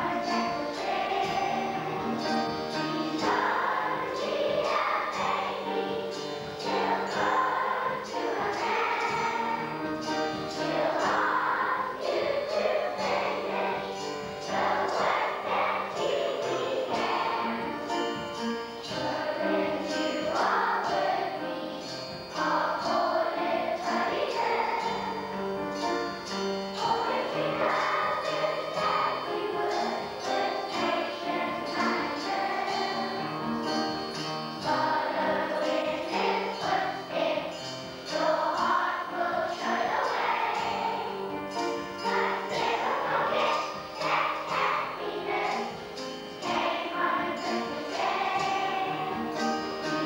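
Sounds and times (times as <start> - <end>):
children's choir singing: 0.0 - 50.0.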